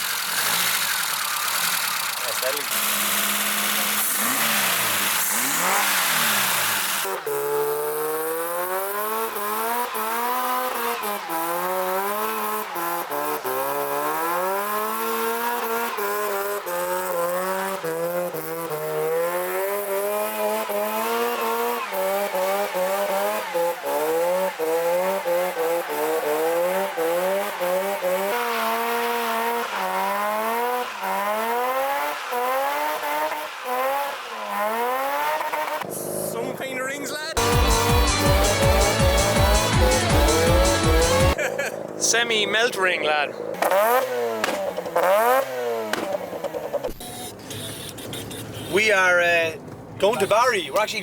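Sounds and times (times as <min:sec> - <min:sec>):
car engine revving: 0:00.0 - 0:36.6, 0:37.4 - 0:42.5, 0:43.3 - 0:48.6.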